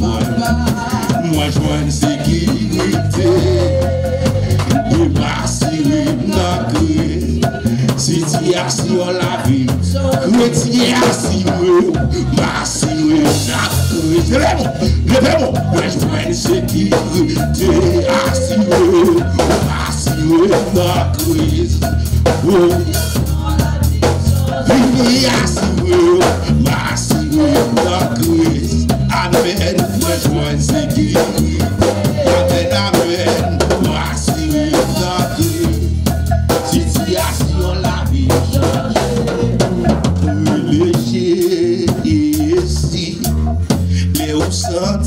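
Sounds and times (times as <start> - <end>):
deep bass line: 0.0 - 45.0
praise band music: 0.0 - 45.0.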